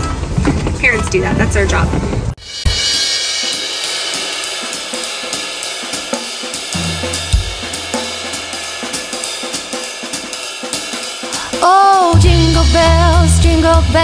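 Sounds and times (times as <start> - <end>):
upbeat instrumental music: 2.4 - 14.0.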